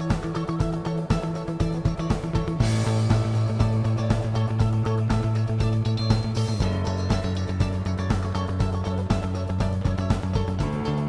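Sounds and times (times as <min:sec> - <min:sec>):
music with steady drum beat: 0:00.0 - 0:11.0.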